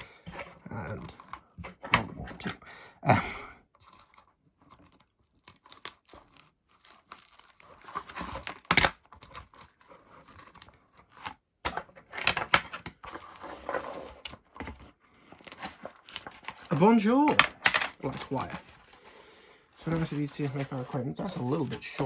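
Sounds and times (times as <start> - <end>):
rustling and crinkling of parts: 0.0 - 22.0.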